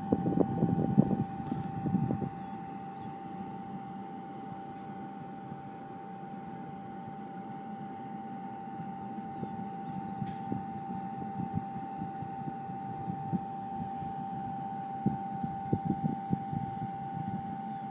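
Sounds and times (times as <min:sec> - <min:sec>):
mixing machine humming: 0:00.0 - 0:17.9.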